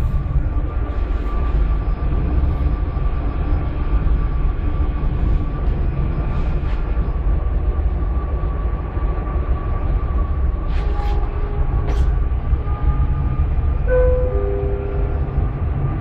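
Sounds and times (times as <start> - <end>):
constant high whine: 0.0 - 16.0
train low rumble: 0.0 - 16.0.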